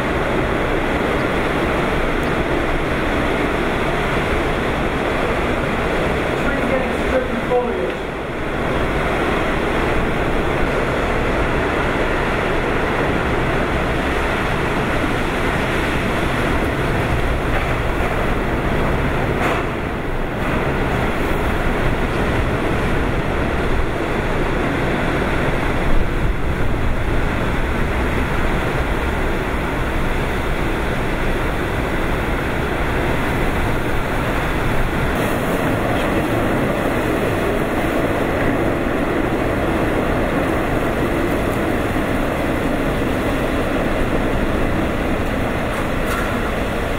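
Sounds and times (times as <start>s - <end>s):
heavy rain: 0.0s - 46.9s
rushing wind: 0.0s - 46.9s.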